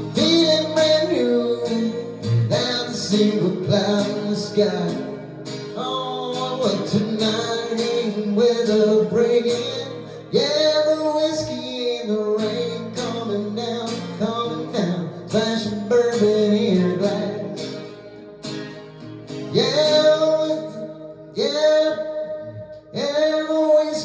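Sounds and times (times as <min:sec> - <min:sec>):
man singing long wordless notes: 0:00.0 - 0:17.9, 0:19.5 - 0:24.0
acoustic guitar country song: 0:00.0 - 0:24.0.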